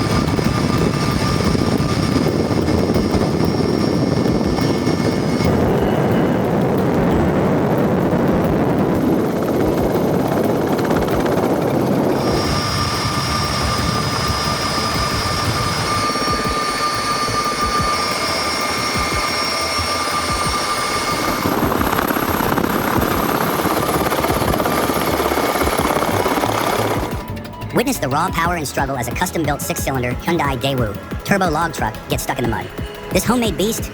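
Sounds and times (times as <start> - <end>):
helicopter rotor and engine noise: 0.0 - 33.9
high turbine whine: 0.0 - 33.9.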